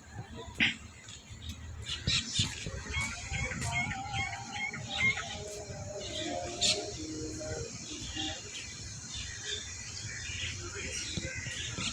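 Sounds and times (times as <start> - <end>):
birds calling and chirping: 0.1 - 11.9.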